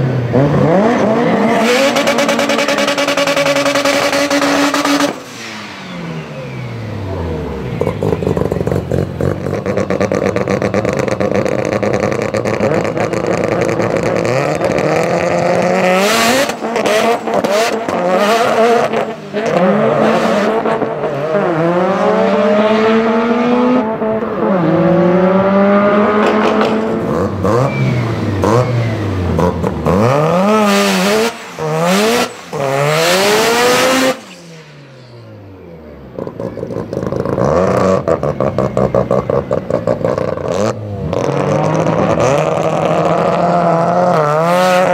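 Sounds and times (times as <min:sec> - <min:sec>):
car engine revving hard: 0:00.0 - 0:44.9.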